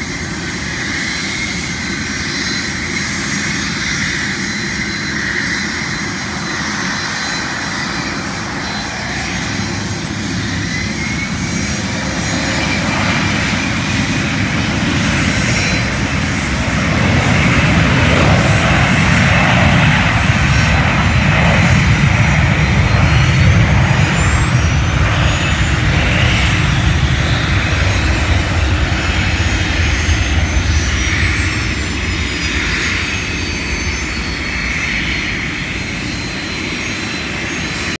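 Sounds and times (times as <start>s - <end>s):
high turbine whine: 0.0s - 37.9s
jet engines roaring: 0.0s - 37.9s.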